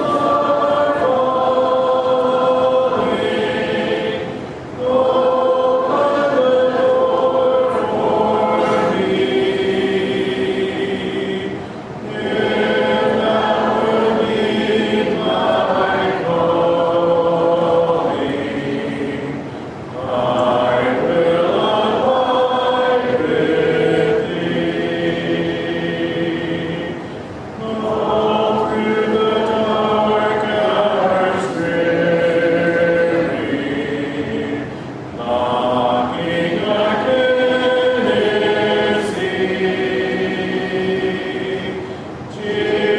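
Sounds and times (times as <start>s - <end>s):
congregation singing a hymn: 0.0s - 42.9s.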